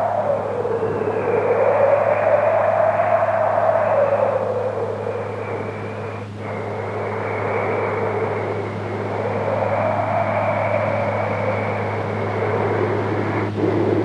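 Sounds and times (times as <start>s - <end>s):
low electrical hum: 0.0s - 14.0s
wind howling in gusts: 0.0s - 14.0s.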